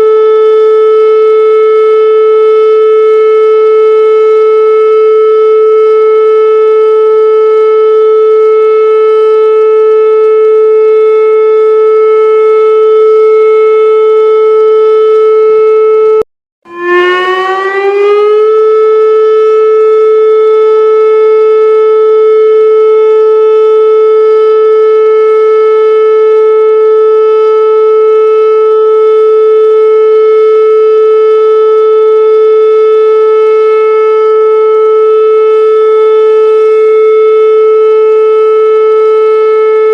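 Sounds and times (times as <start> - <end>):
emergency warning siren: 0.0 - 39.9.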